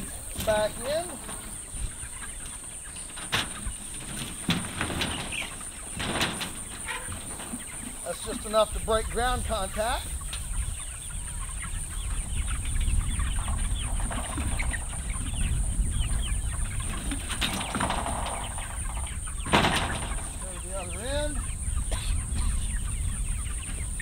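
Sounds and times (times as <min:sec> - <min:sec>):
chickens clucking and peeping: 0:00.0 - 0:24.0.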